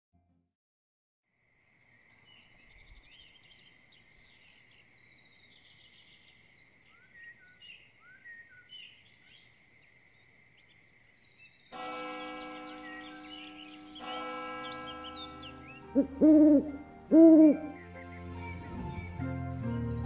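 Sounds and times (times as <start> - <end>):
birds chirping: 2.0 - 19.8.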